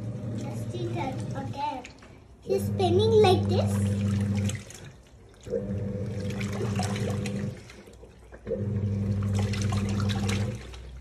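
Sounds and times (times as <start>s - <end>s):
washing machine motor humming: 0.0s - 11.0s
water sloshing in drum: 0.0s - 11.0s.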